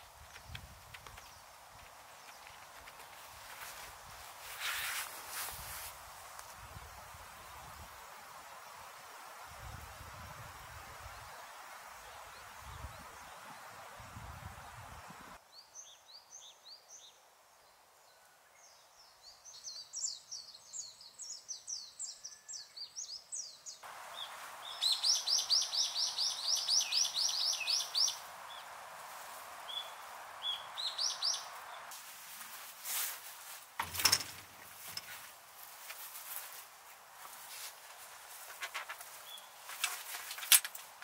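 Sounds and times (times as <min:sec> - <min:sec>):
outdoor background noise: 0:00.0 - 0:41.0
songbird chirping: 0:00.0 - 0:41.0.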